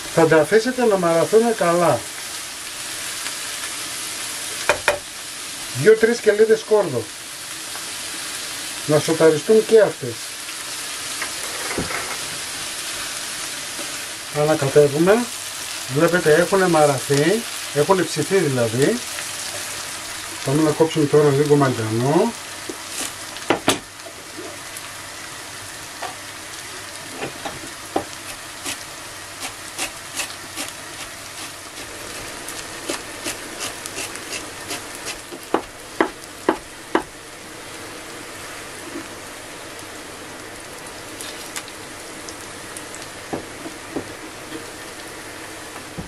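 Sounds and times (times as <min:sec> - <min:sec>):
vegetables sizzling in a frying pan: 0:00.0 - 0:46.0.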